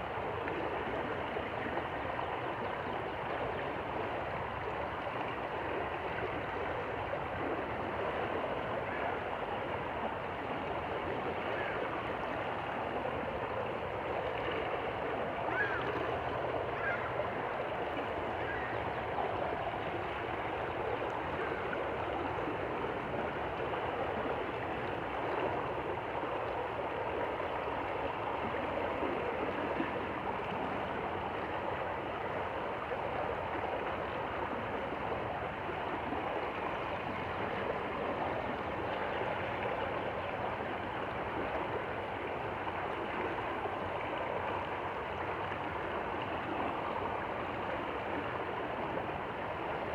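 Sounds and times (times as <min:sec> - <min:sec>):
stream flowing: 0:00.0 - 0:49.9.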